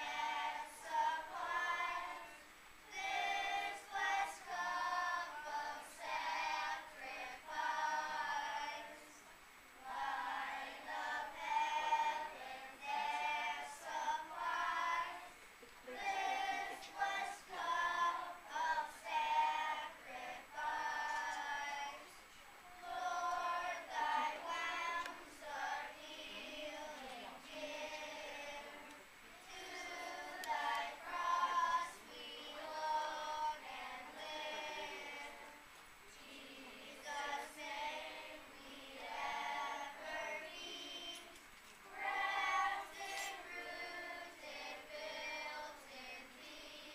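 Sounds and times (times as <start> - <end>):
children's choir singing: 0.0 - 46.9.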